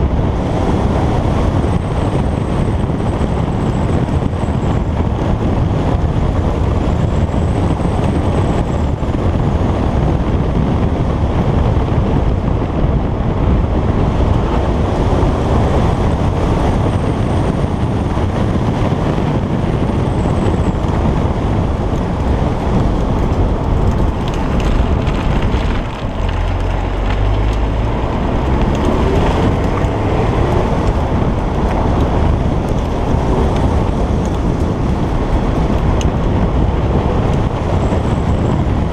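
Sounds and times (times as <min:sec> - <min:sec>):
car engine driving: 0:00.0 - 0:38.9
road noise: 0:00.0 - 0:38.9
wind noise on microphone: 0:00.0 - 0:38.9.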